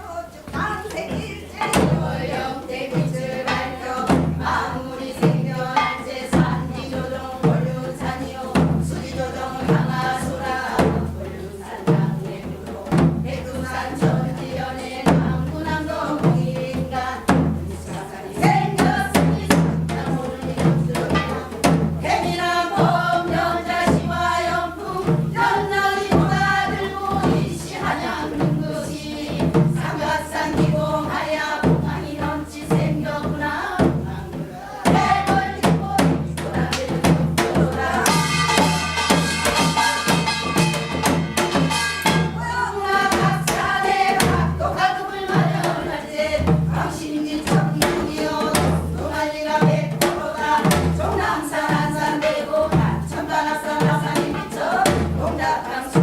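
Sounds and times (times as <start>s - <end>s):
person singing folk song: 0.0s - 40.3s, 42.0s - 56.0s
drum strokes: 0.5s - 56.0s.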